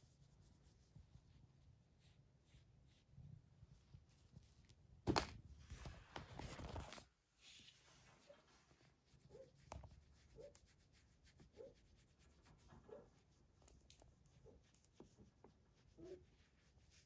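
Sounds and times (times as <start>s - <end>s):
fingers scratching cat fur: 0.0s - 4.8s, 7.4s - 17.0s.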